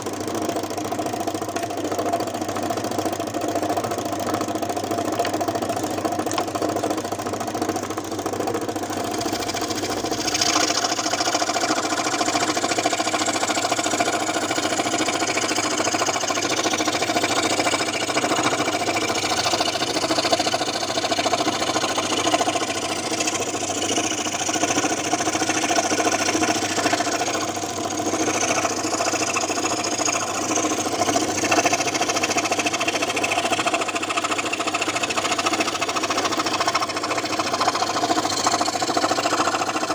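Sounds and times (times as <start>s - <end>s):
scroll saw humming: 0.0s - 39.9s.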